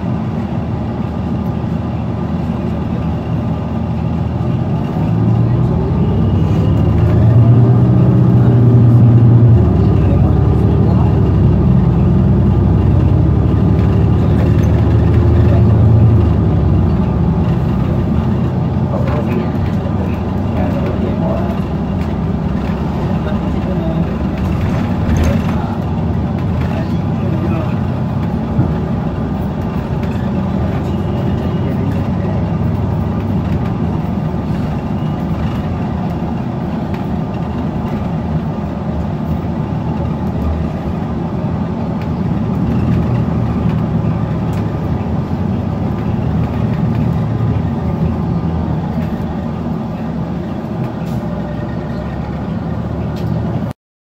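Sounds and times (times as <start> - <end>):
bus engine idling: 0.0 - 53.8.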